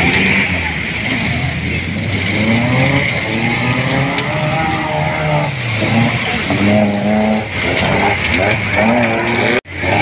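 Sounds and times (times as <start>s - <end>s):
jeep engines revving: 0.0s - 10.0s
rushing water: 0.0s - 10.0s.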